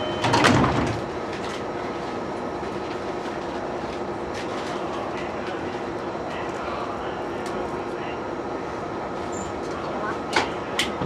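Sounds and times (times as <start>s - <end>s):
train interior hum: 0.0s - 11.0s.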